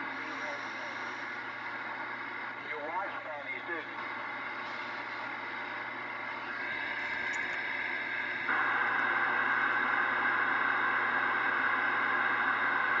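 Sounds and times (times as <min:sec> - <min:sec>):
radio static hiss: 0:00.0 - 0:12.9.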